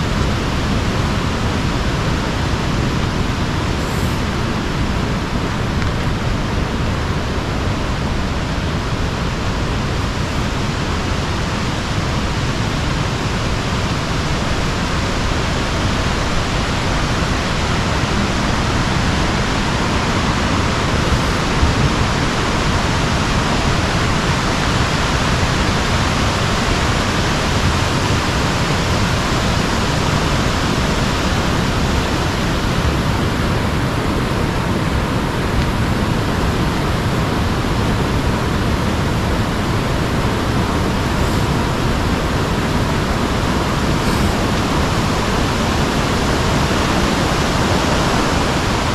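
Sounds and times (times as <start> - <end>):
river water rushing: 0.0 - 8.9, 10.0 - 48.9.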